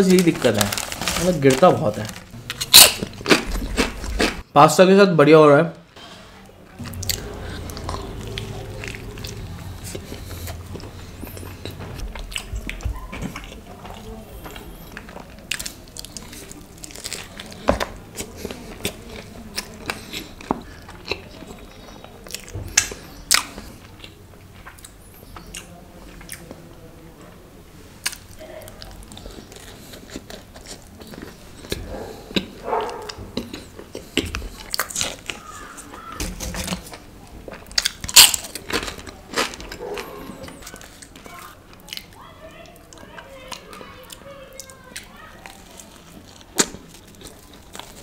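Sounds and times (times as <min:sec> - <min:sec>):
biting and wet chewing: 0:00.0 - 0:04.5, 0:06.4 - 0:48.0.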